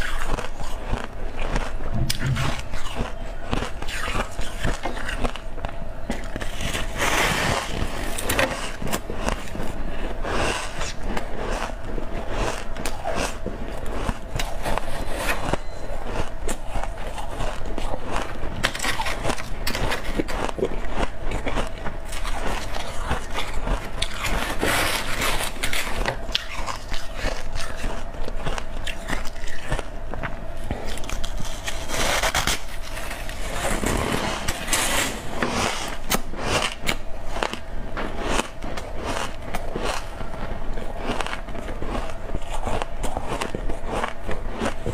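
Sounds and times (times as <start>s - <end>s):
chewing crunchy ice: 0.0s - 34.7s, 35.5s - 44.9s.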